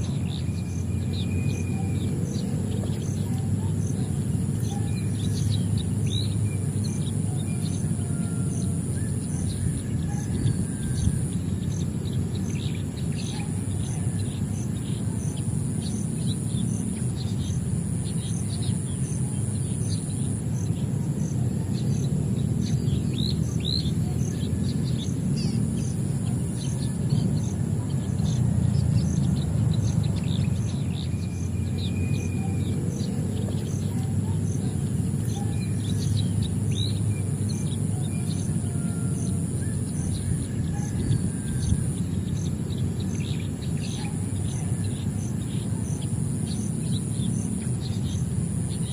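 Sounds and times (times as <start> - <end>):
birds chirping: 0.0 - 48.9
high insect drone: 0.0 - 48.9.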